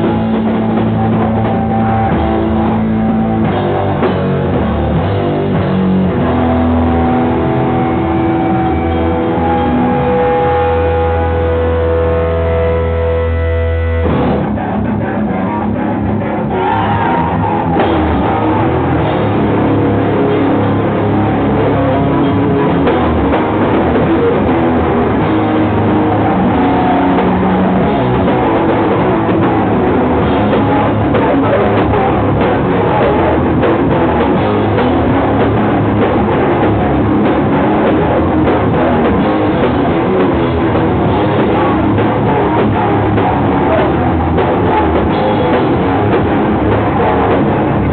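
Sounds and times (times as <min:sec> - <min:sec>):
rock band playing loudly: 0:00.0 - 0:47.9.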